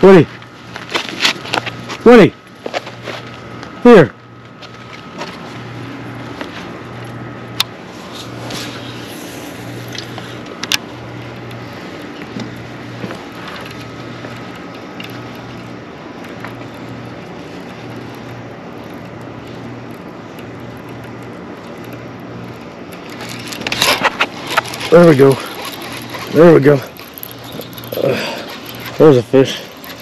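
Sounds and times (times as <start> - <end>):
low pulsing machine hum: 0.0 - 30.0.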